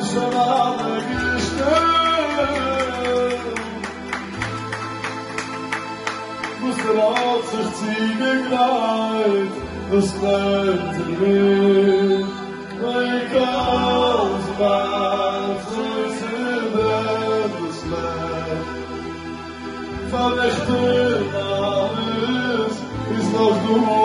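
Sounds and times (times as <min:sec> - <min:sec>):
person singing: 0:00.0 - 0:19.1, 0:19.9 - 0:24.0
instrumental backing: 0:00.0 - 0:24.0.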